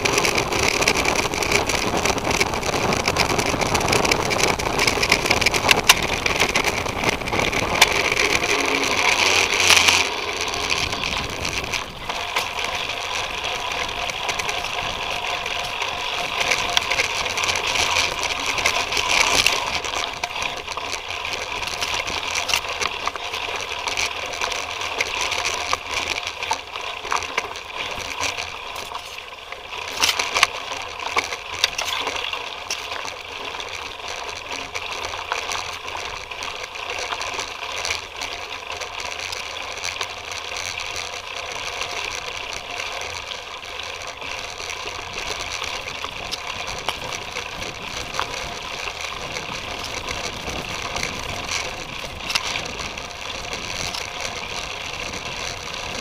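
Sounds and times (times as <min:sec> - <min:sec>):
bike frame and tyres rattling: 0:00.0 - 0:56.0.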